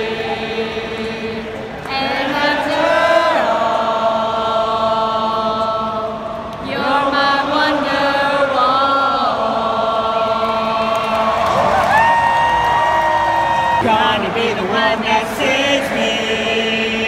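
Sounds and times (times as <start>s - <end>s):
stadium crowd singing: 0.0s - 17.0s.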